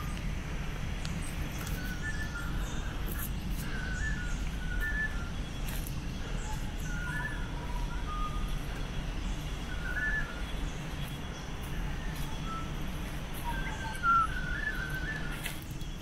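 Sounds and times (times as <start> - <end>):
forest birds whistling: 0.0 - 16.0
steady low rumble: 0.0 - 16.0.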